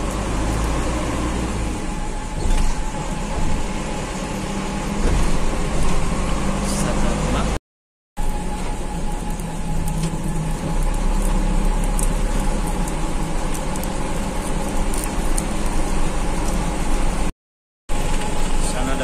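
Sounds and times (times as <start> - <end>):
bus engine hum: 0.0 - 7.6, 8.2 - 17.3
road noise: 0.0 - 7.6, 8.2 - 17.3.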